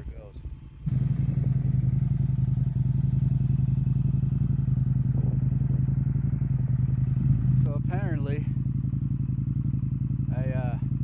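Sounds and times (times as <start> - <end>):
motorcycle engine cruising: 0.7 - 11.0.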